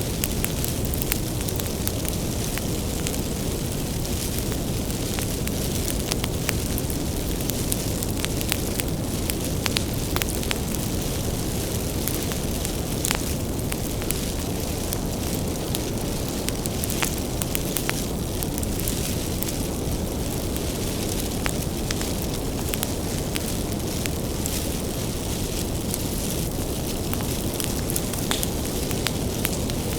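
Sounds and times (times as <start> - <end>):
bonfire crackling: 0.0 - 29.9.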